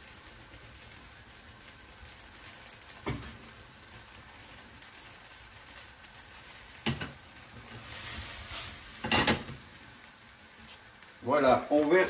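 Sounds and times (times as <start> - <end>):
sizzling in a frying pan: 0.0 - 12.0.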